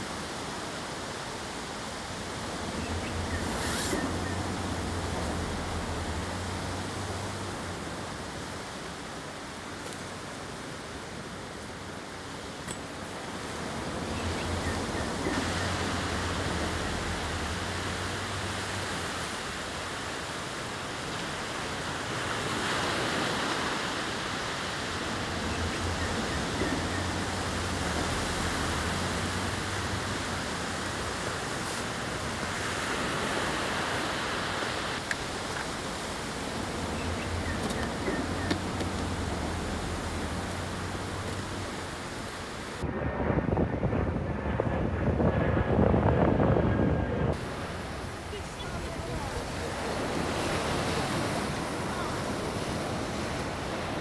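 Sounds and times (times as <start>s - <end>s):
surf washing up on beach: 0.0s - 42.9s, 47.3s - 54.0s.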